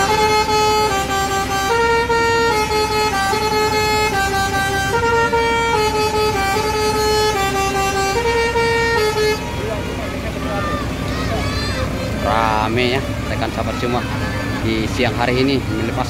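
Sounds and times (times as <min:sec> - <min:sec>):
bus horn playing a looping tune: 0:00.0 - 0:13.3.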